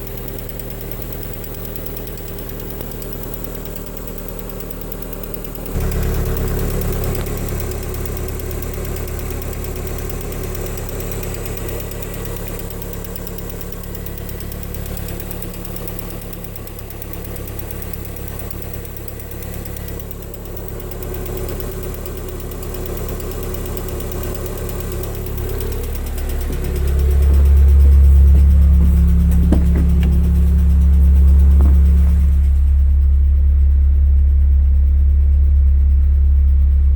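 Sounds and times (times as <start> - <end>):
car engine idling: 0.0 - 36.9
engine knocking: 0.0 - 36.9.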